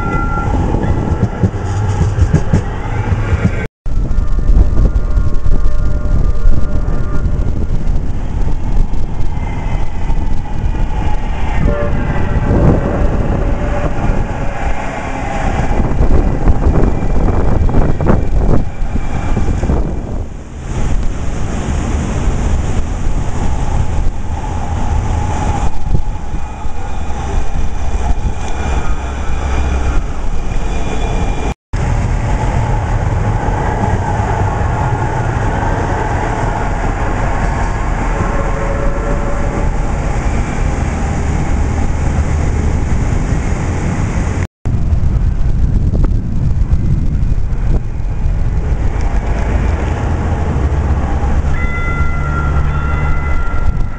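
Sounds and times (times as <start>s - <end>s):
tram motors whining: 0.0s - 21.2s, 22.6s - 43.0s, 48.6s - 53.9s.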